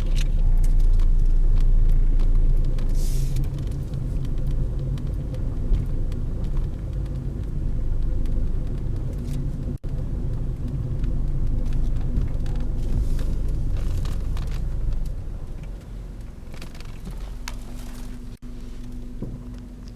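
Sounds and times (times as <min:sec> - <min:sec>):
vehicle engine and road noise: 0:00.0 - 0:19.9.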